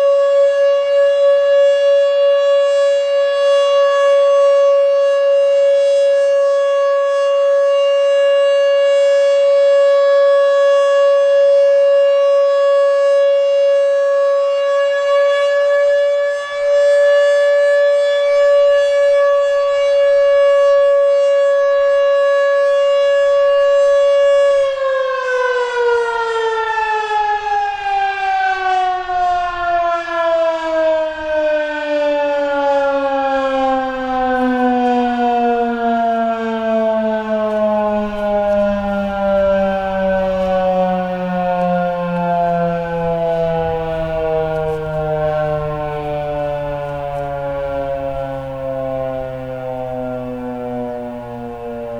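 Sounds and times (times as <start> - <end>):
tornado siren steady tone: 0.0 - 51.9.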